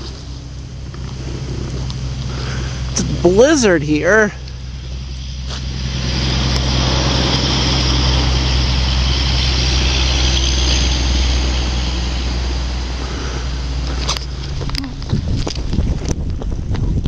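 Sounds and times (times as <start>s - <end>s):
broad rushing noise: 0.0s - 17.0s
vehicle engine humming: 0.0s - 17.0s.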